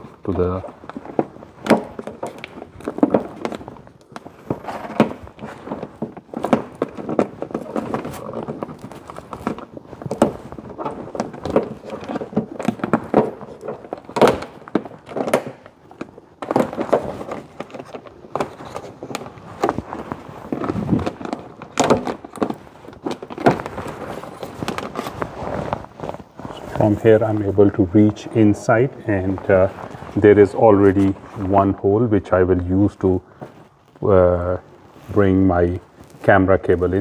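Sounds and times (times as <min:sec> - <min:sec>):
plastic sheet crackling and tearing: 0:00.0 - 0:37.0.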